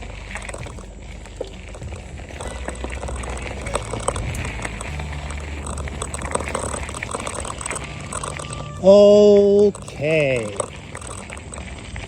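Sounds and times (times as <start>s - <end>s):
bike clicks and rattles: 0.0s - 12.0s
bike tyres rolling on trail: 0.0s - 12.0s
steady low rumble: 0.0s - 12.0s.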